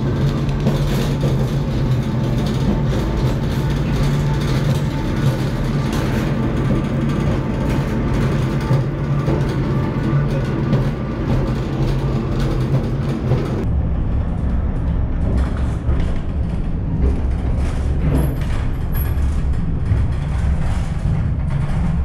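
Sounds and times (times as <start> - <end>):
funicular car rumbling on rails: 0.0 - 22.0.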